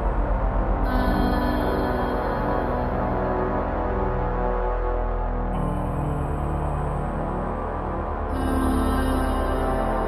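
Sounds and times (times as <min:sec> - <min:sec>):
low pulsing bass: 0:00.0 - 0:10.0.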